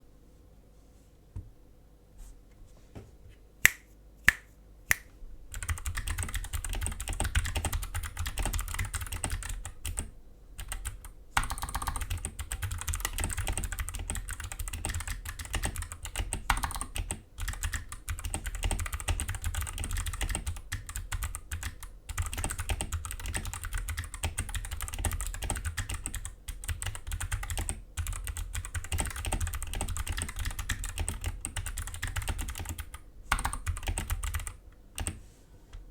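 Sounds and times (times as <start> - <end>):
clicky keyboard typing: 5.5 - 35.2.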